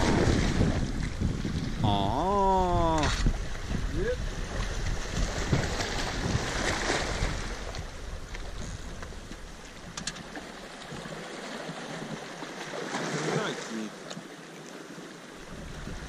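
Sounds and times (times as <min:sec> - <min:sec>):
wind rumbling on microphone: 0:00.0 - 0:12.2, 0:15.4 - 0:16.0
sea washing against rocks: 0:00.0 - 0:16.0.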